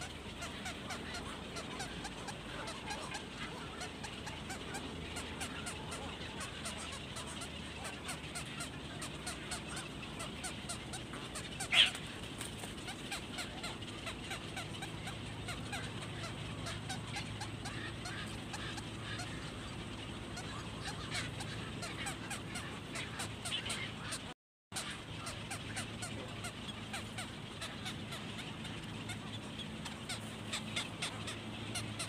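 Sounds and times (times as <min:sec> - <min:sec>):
birds calling in colony: 0:00.0 - 0:32.0
loud harsh bird call: 0:00.0 - 0:32.0.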